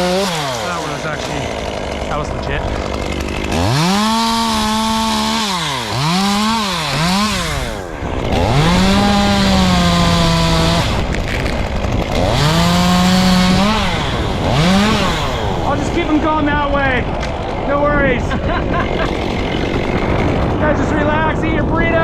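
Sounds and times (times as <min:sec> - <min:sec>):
chainsaw revving and idling: 0:00.0 - 0:21.7.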